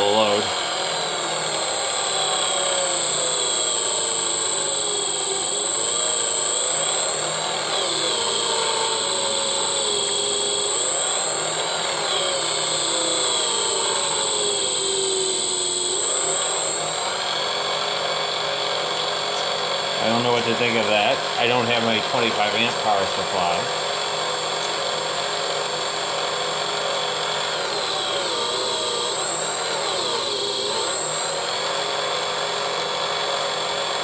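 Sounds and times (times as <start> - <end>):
electric motor whining: 0.0 - 34.0
steady high-pitched whine: 0.0 - 34.0.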